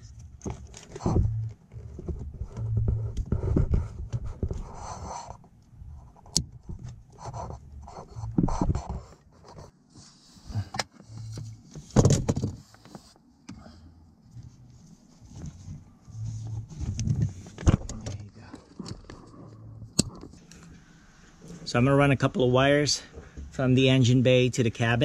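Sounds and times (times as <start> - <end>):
hands scraping and rustling wires: 0.0 - 13.5, 14.2 - 25.0.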